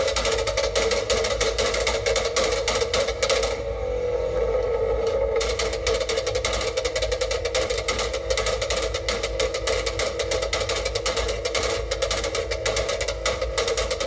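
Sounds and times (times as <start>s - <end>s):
exhaust pops and crackles: 0.0s - 3.6s, 5.4s - 14.0s.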